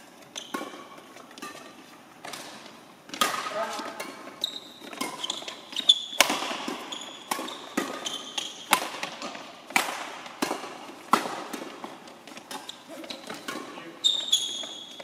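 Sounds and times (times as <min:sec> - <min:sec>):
shoes squeaking on court floor: 0:00.0 - 0:09.6, 0:10.4 - 0:15.0
rackets hitting shuttlecock: 0:00.3 - 0:15.0.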